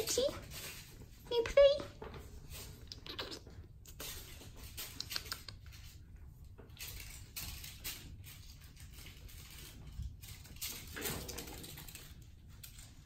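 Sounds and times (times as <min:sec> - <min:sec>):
kittens tapping and rustling toy: 0:00.0 - 0:13.0.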